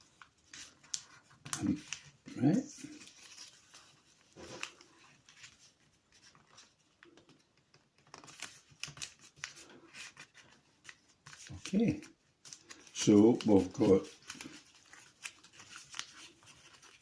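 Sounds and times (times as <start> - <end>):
paper being folded: 0.0 - 17.0.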